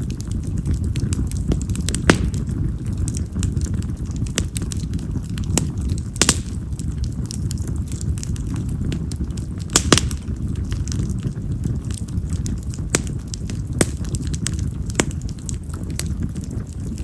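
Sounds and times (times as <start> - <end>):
firewood crackling and popping: 0.0 - 17.0
flames rushing: 0.0 - 17.0.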